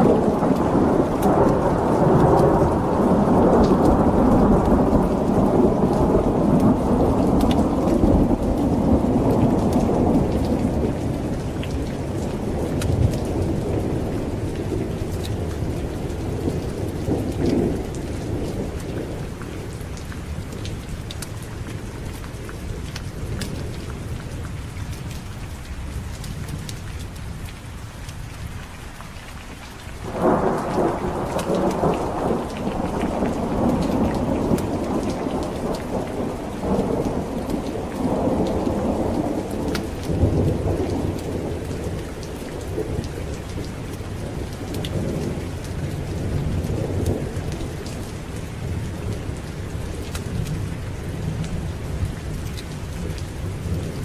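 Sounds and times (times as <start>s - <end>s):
thunderclap rolling: 0.0s - 19.3s, 30.0s - 54.0s
heavy rain: 0.0s - 54.0s.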